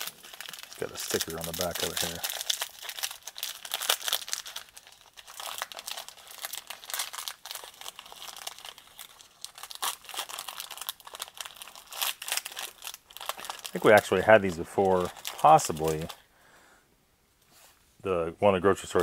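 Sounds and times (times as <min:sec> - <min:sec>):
foil wrapper crinkling: 0:00.0 - 0:16.2.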